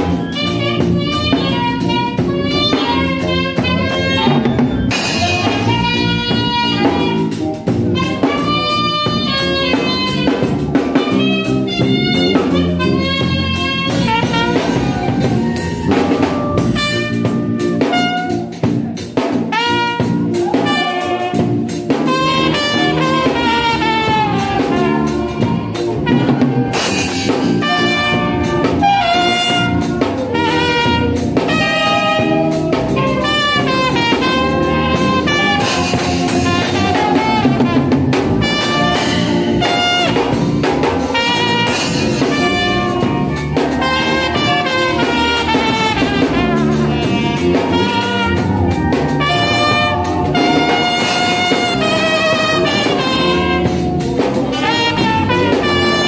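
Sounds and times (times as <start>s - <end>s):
drum kit: 0.0s - 56.0s
trumpet melody: 0.0s - 56.0s.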